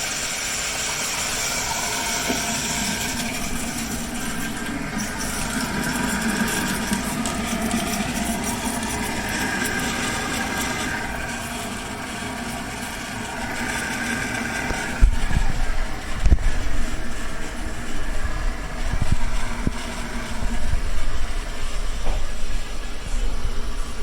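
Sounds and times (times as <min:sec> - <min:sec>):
toilet tank refilling: 0:00.0 - 0:24.0.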